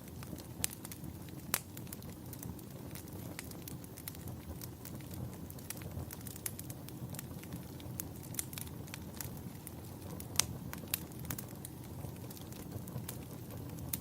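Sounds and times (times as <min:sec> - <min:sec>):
burning wood crackling and popping: 0:00.0 - 0:14.0
campfire low rumble: 0:00.0 - 0:14.0.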